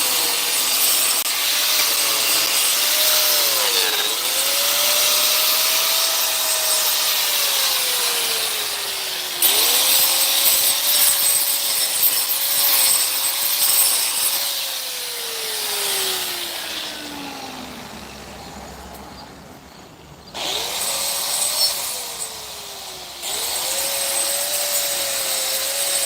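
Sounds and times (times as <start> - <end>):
power saw motor whine: 0.0 - 26.0.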